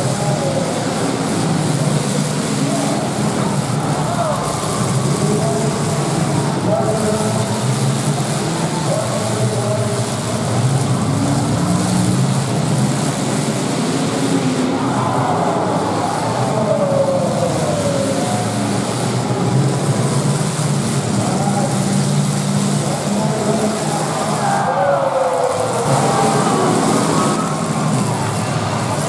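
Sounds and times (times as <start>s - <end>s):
arena noise hiss: 0.0s - 29.0s
car engines revving: 0.0s - 29.0s.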